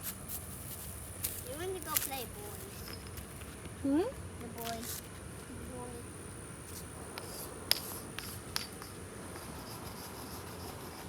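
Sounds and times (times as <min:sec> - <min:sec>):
faint high-pitched hum: 0:00.0 - 0:11.0.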